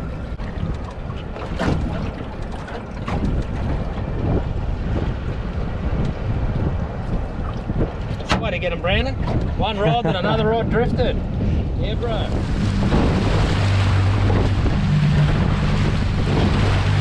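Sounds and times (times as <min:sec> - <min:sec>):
water lapping at hull: 0:00.0 - 0:17.0
wind buffeting microphone: 0:00.0 - 0:17.0.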